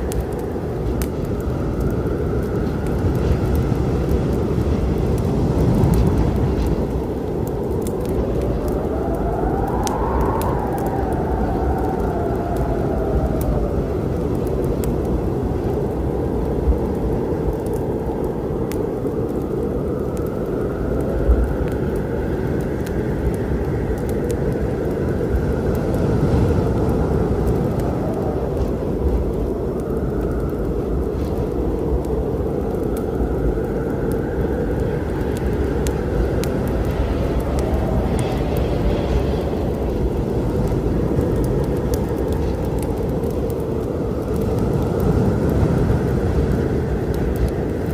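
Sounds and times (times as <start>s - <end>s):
low storm rumble: 0.0s - 47.9s
wind howling: 0.0s - 47.9s
wood fire crackling: 0.0s - 47.9s.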